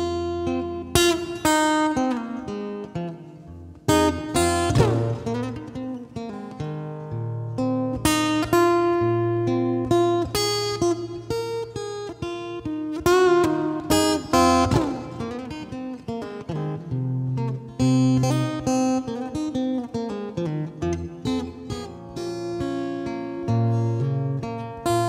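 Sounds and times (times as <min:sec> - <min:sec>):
acoustic guitar picking: 0:00.0 - 0:25.0.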